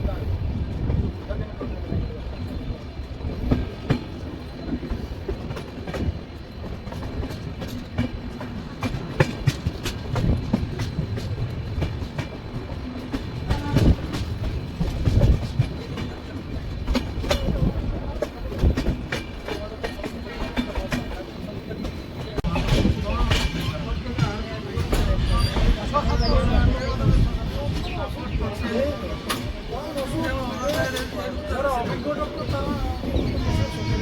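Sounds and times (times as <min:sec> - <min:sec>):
train low rumble: 0:00.0 - 0:34.0
train wheels clattering over rail joints: 0:03.1 - 0:34.0.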